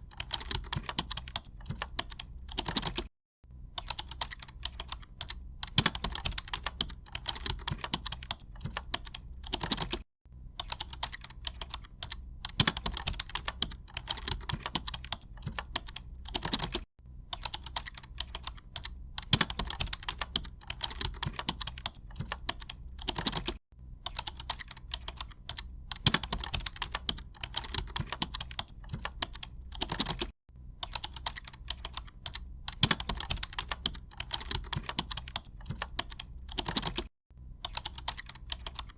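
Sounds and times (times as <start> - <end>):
typing on a computer keyboard: 0.0 - 3.1, 3.8 - 10.0, 10.6 - 38.9.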